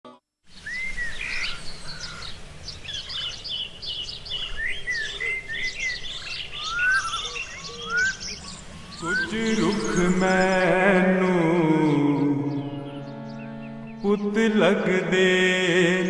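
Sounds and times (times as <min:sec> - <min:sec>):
birds chirping: 0:00.5 - 0:16.0.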